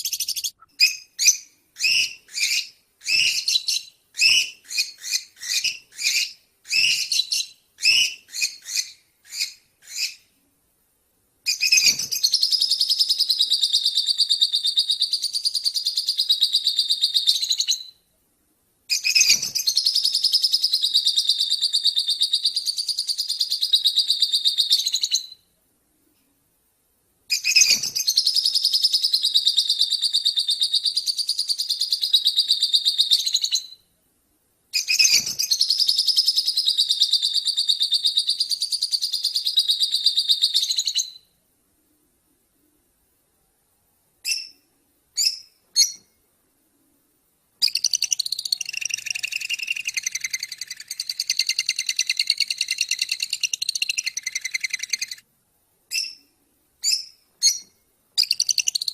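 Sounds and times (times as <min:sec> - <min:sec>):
songbird chirping and twittering: 0:00.0 - 0:10.4, 0:11.4 - 0:18.1, 0:18.9 - 0:25.6, 0:27.3 - 0:34.0, 0:34.7 - 0:41.4, 0:44.2 - 0:46.3, 0:47.6 - 0:55.3, 0:55.9 - 0:58.9.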